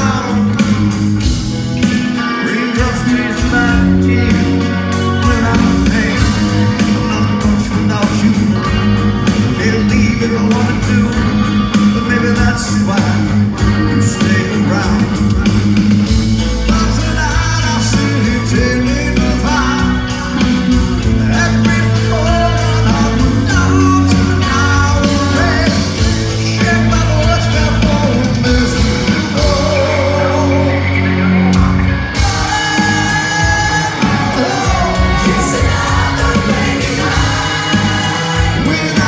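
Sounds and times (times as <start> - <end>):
man singing: 0.0 - 1.0, 1.6 - 15.7, 16.4 - 39.0
bass guitar: 0.0 - 39.0
drums: 0.0 - 39.0
electric guitars: 0.0 - 39.0.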